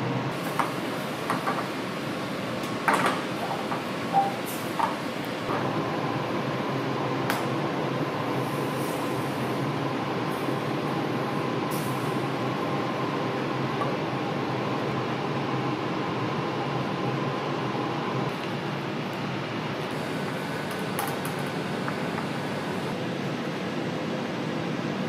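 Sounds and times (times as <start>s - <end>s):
kitchen fans humming: 0.0s - 24.2s.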